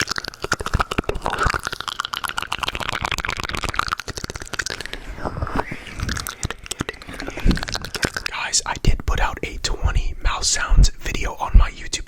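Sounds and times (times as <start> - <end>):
wet tongue and lip clicks: 0.0 - 10.0.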